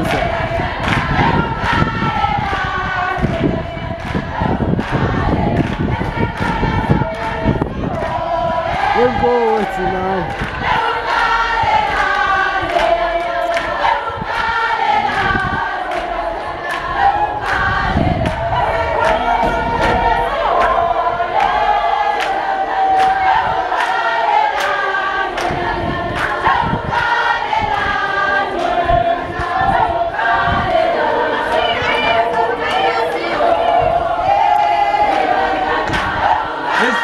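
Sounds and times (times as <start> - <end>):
crowd singing in chorus: 0.0 - 37.0.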